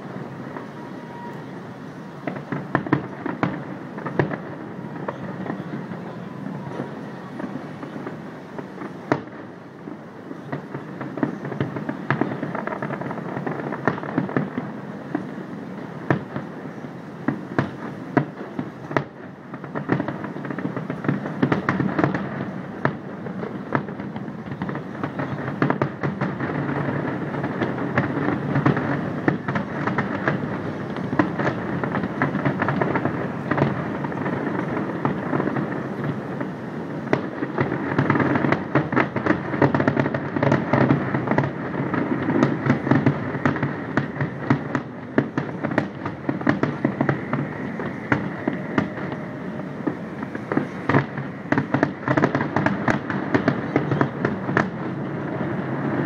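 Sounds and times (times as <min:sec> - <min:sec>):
fireworks pops and crackles: 0:00.0 - 0:56.0
rumble of fireworks shell bursts: 0:02.2 - 0:09.6, 0:17.3 - 0:56.0.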